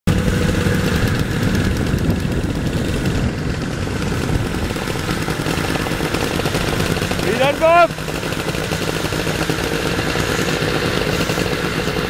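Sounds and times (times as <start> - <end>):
snowmobile engines idling: 0.1 - 12.0.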